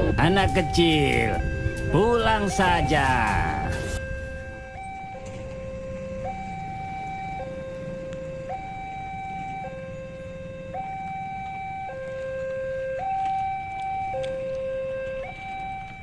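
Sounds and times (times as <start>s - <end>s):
two-tone crossing alarm: 0.0s - 16.0s.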